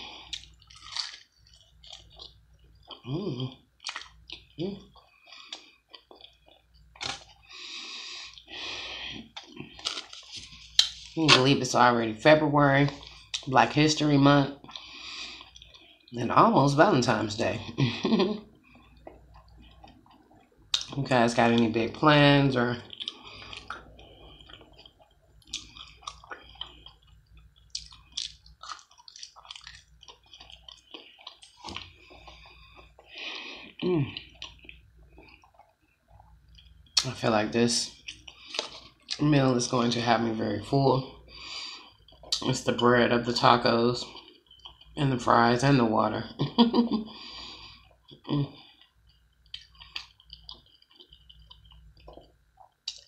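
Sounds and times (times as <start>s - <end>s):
chewing food: 0.0s - 11.4s, 14.5s - 16.2s, 17.6s - 22.0s, 22.7s - 37.1s, 37.9s - 40.0s, 41.3s - 45.1s, 46.9s - 53.0s.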